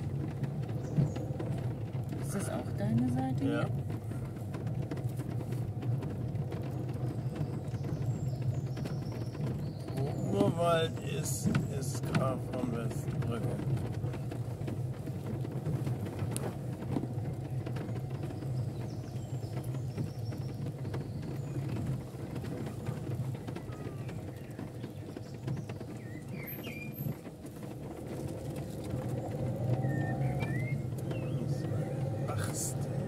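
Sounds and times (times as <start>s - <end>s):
car engine and tyre rumble: 0.0s - 33.0s
tyres crunching on dirt: 0.0s - 33.0s.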